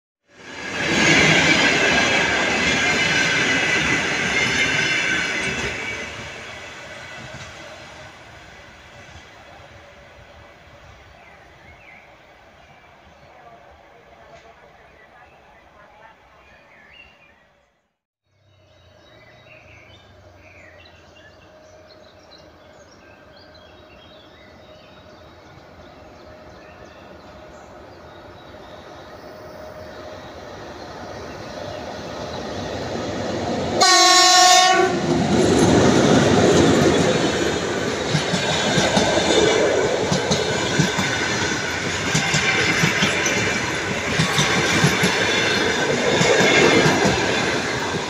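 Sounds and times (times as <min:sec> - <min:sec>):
train wheels rumbling on rails: 0:00.3 - 0:14.8, 0:18.9 - 0:48.0
distant electric locomotive hum: 0:00.3 - 0:17.3, 0:18.4 - 0:48.0.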